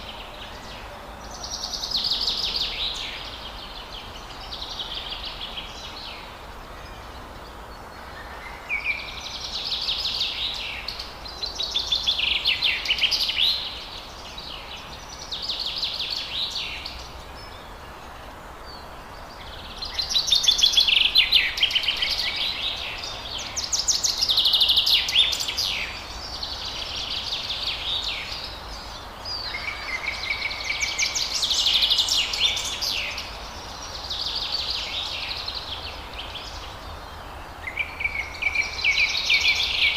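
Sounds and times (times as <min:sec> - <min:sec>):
songbirds chattering: 0:00.0 - 0:39.9
steady background hiss: 0:00.0 - 0:39.9.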